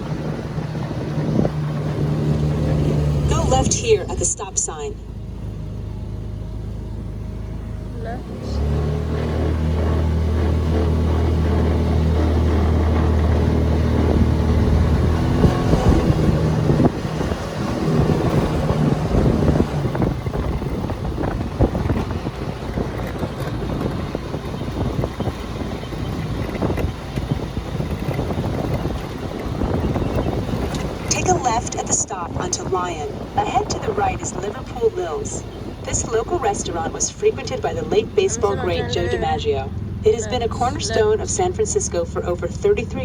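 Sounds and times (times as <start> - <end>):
wind buffeting microphone: 0.0 - 4.8, 5.4 - 43.0
low engine hum: 0.0 - 43.0
road noise: 0.0 - 43.0.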